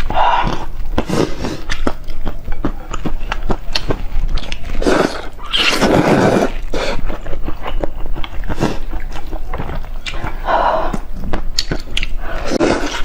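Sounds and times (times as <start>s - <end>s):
chewing and biting: 0.0s - 13.0s
wet mouth clicks: 0.0s - 13.0s.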